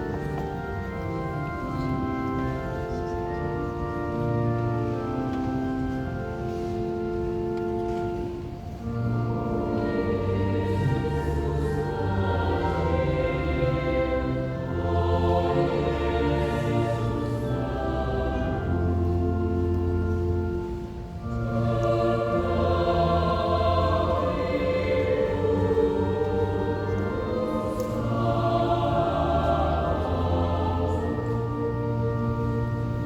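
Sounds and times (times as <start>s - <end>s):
choir singing chords: 0.0s - 33.0s.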